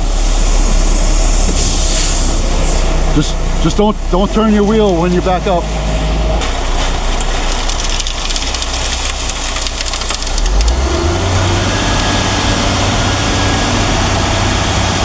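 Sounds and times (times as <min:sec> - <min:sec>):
heavy vehicle engine revving: 0:00.0 - 0:15.0.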